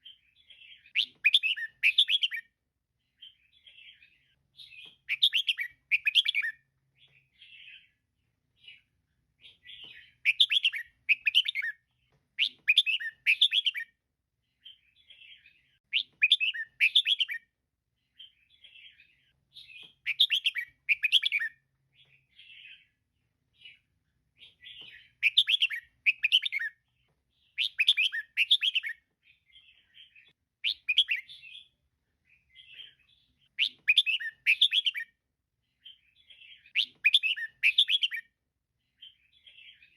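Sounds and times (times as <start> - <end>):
bird chirping calls: 0.0 - 8.0, 8.6 - 14.0, 14.6 - 17.5, 18.2 - 23.0, 23.6 - 35.2, 35.8 - 39.9.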